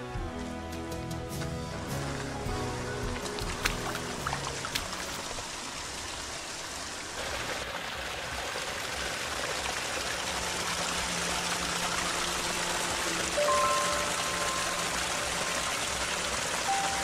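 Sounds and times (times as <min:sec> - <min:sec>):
stream water rushing: 0:01.7 - 0:17.0.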